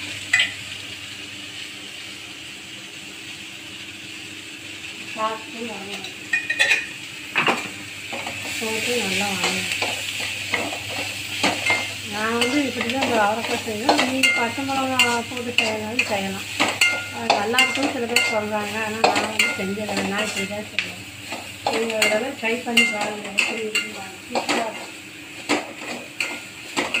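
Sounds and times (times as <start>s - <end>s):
steady sizzling: 0.0s - 27.0s.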